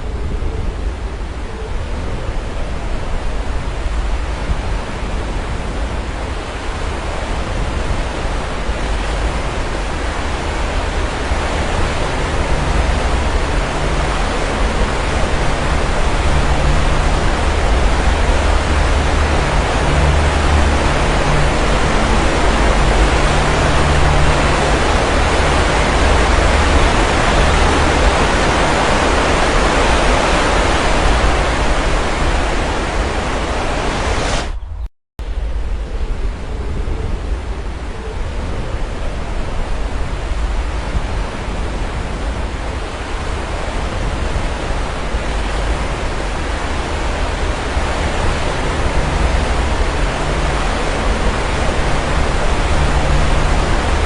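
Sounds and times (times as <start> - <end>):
sea surf washing onto shore: 0.0 - 34.6, 37.2 - 54.0
deep rumble: 0.0 - 54.0.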